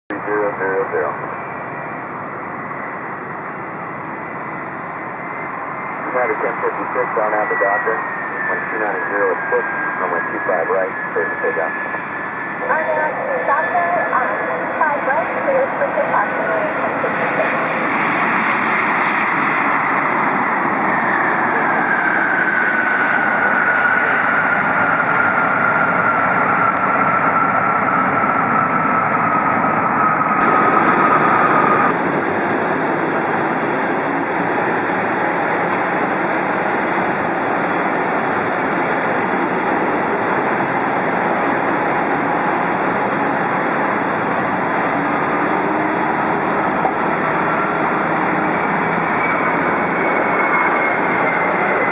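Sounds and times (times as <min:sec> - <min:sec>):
jet engine high whine: 0:00.1 - 0:51.9
jet engines roaring: 0:00.1 - 0:51.9.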